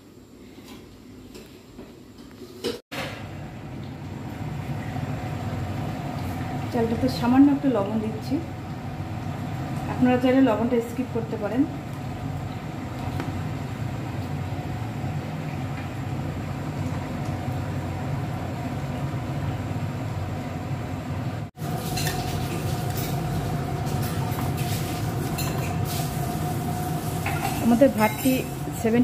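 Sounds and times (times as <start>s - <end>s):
rice boiling in pot: 2.4s - 29.0s
gas burner rumble: 2.6s - 29.0s.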